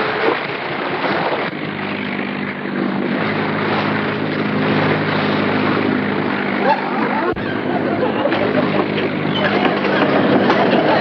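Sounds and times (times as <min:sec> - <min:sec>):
motorboat engine droning: 0:00.0 - 0:11.0
rough water: 0:00.0 - 0:11.0.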